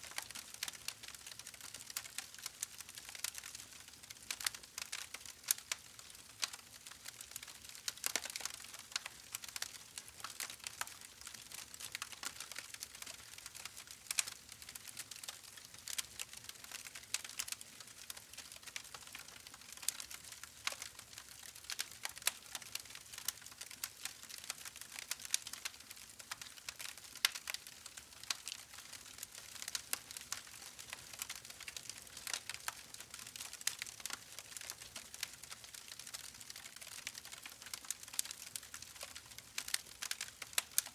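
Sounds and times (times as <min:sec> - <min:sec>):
wood fire crackling and popping: 0:00.1 - 0:40.9.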